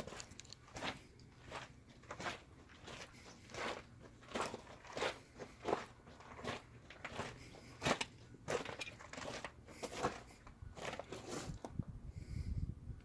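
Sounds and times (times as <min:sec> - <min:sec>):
footsteps on crunchy ground: 0:00.0 - 0:11.8.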